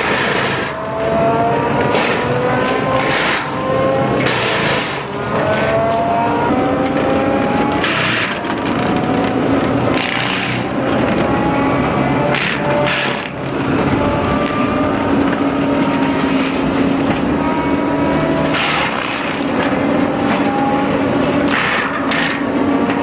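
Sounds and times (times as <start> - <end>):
engine running under load: 0.0 - 23.0
bursts of harsh noise: 1.7 - 23.0.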